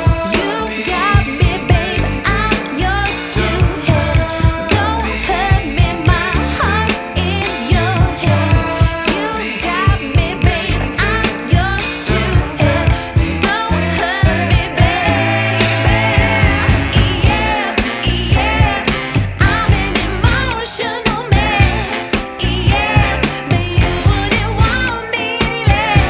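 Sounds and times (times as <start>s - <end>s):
sung pop soul song: 0.0s - 26.0s.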